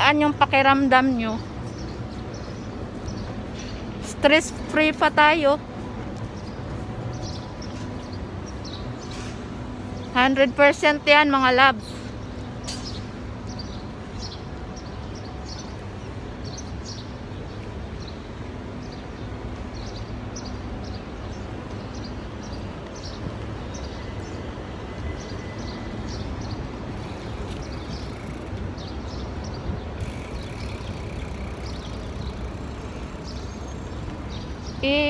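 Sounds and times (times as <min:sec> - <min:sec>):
birds chirping: 0:00.0 - 0:35.0
low rumble of street traffic: 0:00.0 - 0:35.0.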